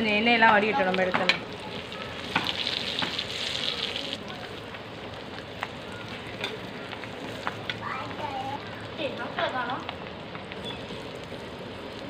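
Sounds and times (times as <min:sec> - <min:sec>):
fish sizzling in oil with pops: 0:00.1 - 0:12.0.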